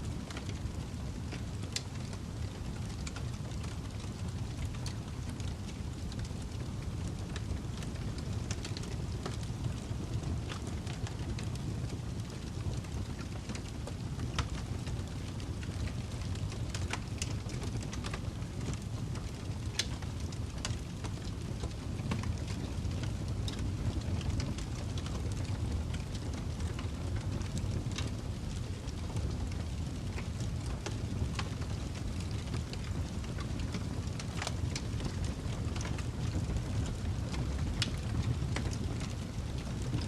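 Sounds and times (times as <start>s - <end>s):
burning wood crackling: 0.0s - 40.0s
fire flames rumbling: 0.0s - 40.0s.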